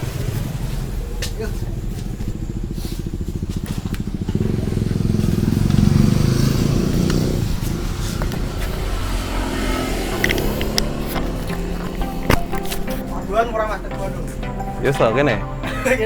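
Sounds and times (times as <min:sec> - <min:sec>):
motorcycle engine passing by: 0:00.0 - 0:15.6.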